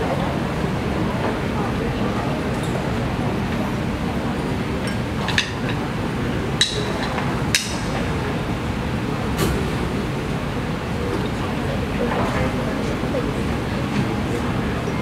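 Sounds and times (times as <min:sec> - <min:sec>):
steady room noise: 0:00.0 - 0:15.0.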